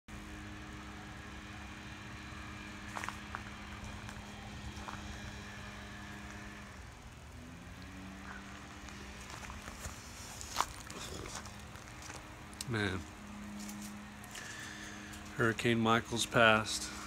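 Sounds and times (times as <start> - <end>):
low engine hum: 0.1 - 17.0.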